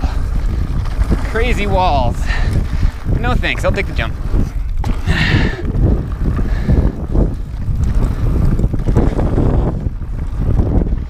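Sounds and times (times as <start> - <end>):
bike rattling over bumps: 0.0 - 11.0
tyres rumbling on dirt: 0.0 - 11.0
wind rumbling over microphone: 0.0 - 11.0.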